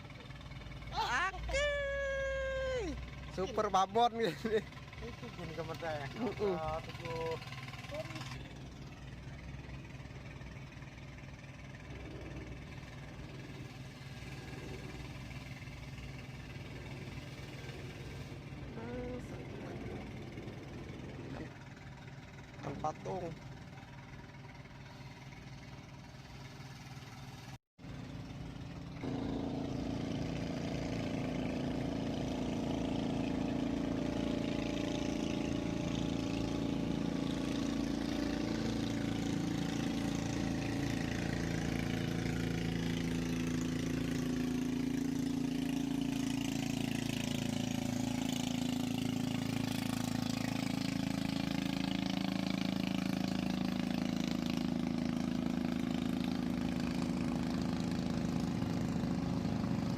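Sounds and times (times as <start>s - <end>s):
small engine running: 0.0s - 59.9s.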